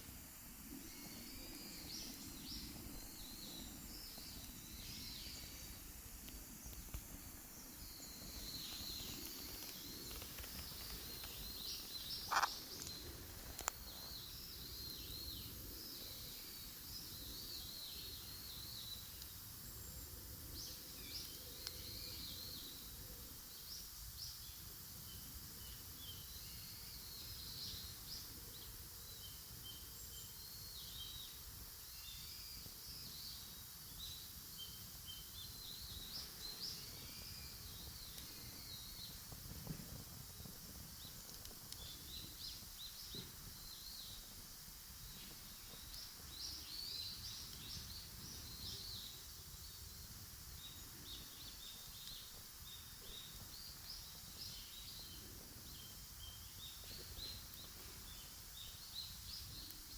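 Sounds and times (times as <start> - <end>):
campfire crackling: 0.0 - 31.9, 32.6 - 59.9
small birds chirping: 0.0 - 59.9.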